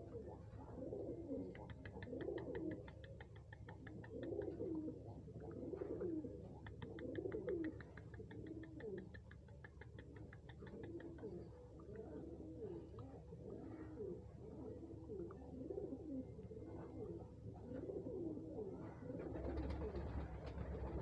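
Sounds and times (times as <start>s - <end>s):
pigeon cooing: 0.0s - 21.0s.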